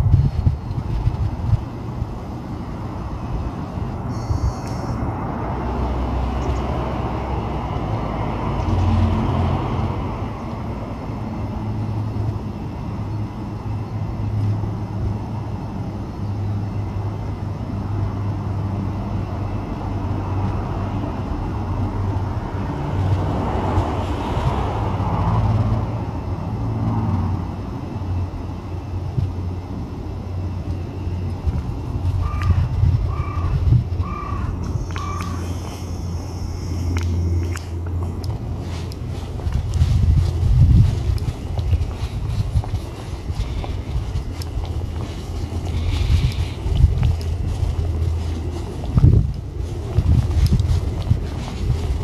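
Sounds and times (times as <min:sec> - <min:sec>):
distant road traffic rumble: 0:00.0 - 0:52.0.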